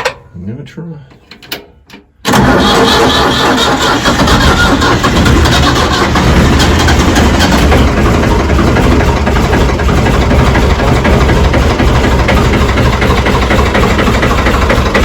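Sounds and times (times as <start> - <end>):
backhoe engine idling: 2.3 - 15.0.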